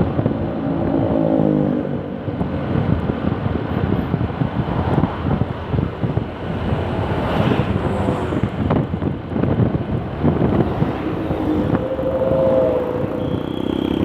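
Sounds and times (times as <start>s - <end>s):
road traffic passing: 0.0s - 14.0s
wind buffeting microphone: 0.0s - 14.0s.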